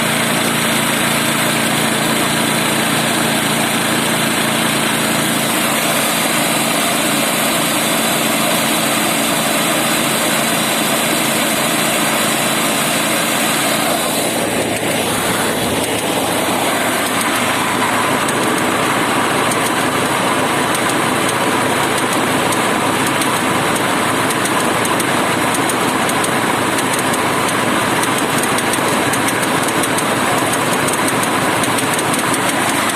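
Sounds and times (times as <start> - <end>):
snowblower engine running: 0.0 - 32.9.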